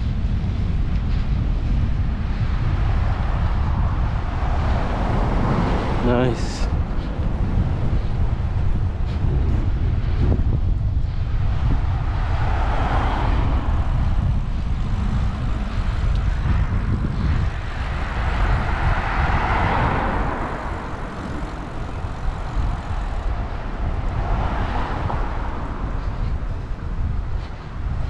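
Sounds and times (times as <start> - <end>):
vehicle noise: 0.0 - 28.0
wind rumbling on microphone: 0.0 - 28.0.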